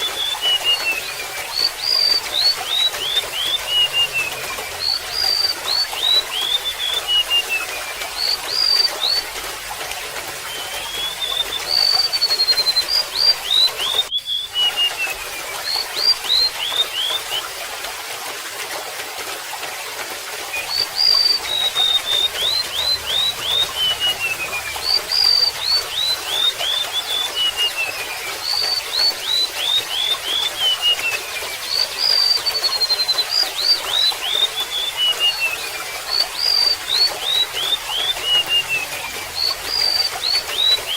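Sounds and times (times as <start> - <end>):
bird singing whistled notes: 0.0 - 9.3, 10.4 - 17.5, 20.5 - 40.9
water trickling: 0.0 - 40.9.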